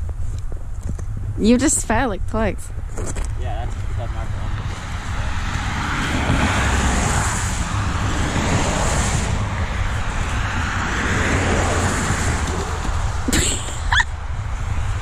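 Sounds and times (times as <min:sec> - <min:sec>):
road traffic passing: 0:00.0 - 0:15.0
wind rumbling on microphone: 0:00.0 - 0:15.0.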